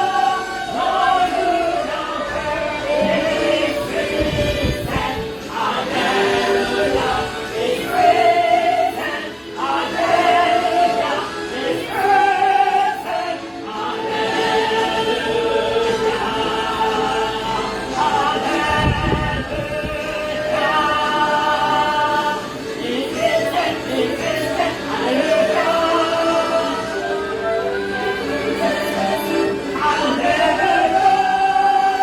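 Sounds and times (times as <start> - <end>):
church choir singing: 0.0 - 32.0.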